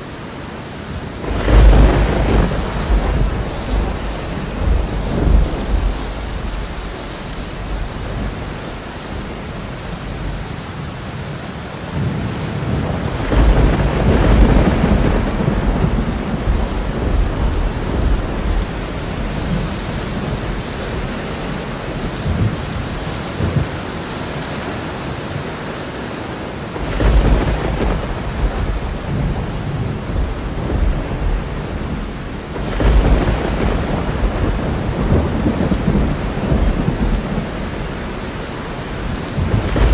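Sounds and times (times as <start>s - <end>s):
steady rain: 0.0s - 39.9s
thunder rumbling: 0.8s - 24.7s, 26.6s - 39.9s.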